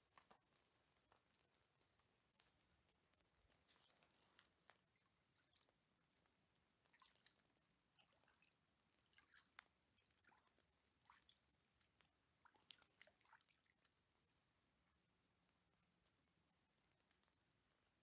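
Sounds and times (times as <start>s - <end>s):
faint small clicks and ticks: 0.0s - 18.0s
faint steady hiss: 0.0s - 18.0s.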